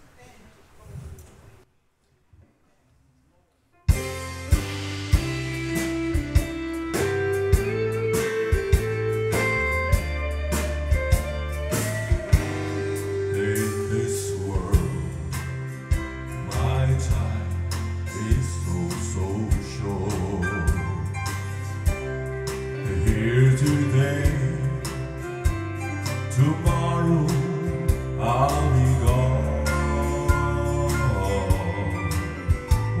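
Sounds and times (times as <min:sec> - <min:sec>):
country gospel band playing: 0:03.9 - 0:33.0
sliding lead melody: 0:03.9 - 0:33.0.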